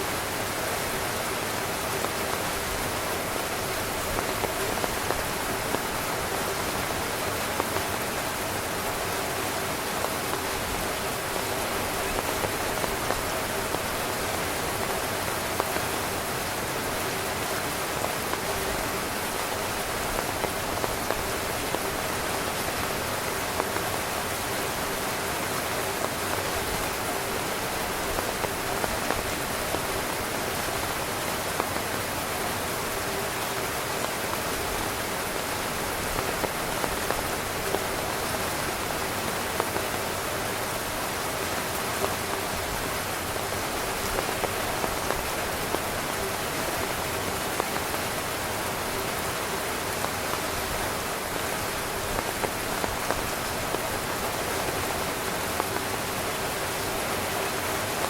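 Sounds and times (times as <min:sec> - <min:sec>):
heavy rain on tent fabric: 0:00.0 - 0:58.0.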